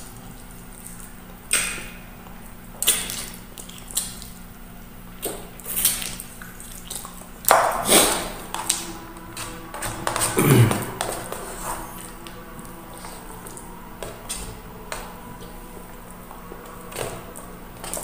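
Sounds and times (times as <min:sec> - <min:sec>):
wet chewing: 0:00.0 - 0:04.4, 0:05.2 - 0:18.0.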